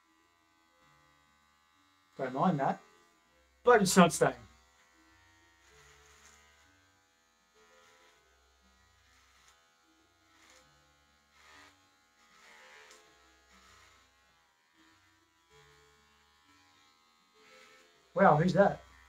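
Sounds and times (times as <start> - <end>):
electric hair clippers buzzing: 0.0 - 19.0.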